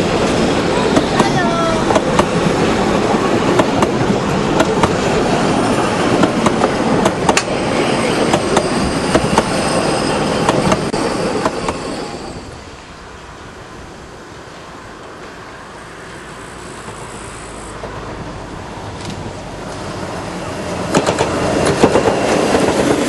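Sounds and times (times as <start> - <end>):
train wheels rumbling on rails: 0.0 - 23.0
rail joint clicks: 0.1 - 12.0, 14.9 - 23.0.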